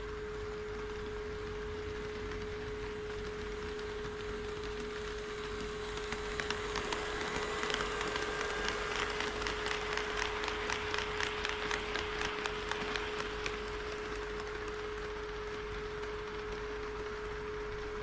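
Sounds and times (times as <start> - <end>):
model train wheels clicking: 0.0 - 18.0.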